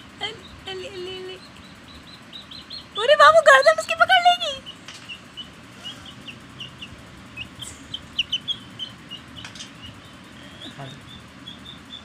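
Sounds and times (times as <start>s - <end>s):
baby chicks peeping: 0.0s - 12.0s.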